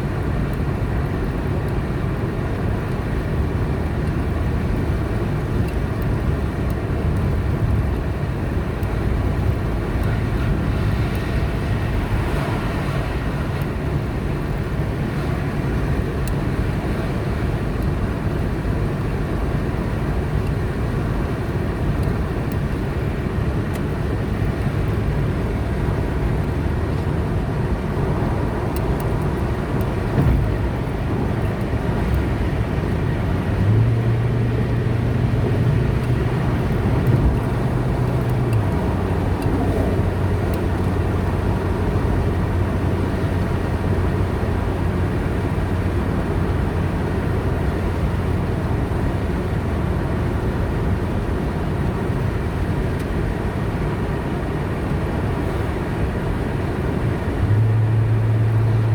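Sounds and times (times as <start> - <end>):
low engine hum: 0.0 - 58.9
road and tyre noise: 0.0 - 58.9.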